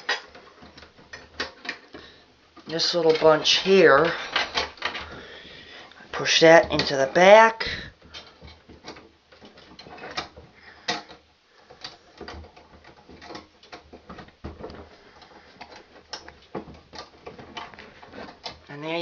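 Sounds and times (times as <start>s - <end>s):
cables clicking against metal box: 0.0s - 19.0s.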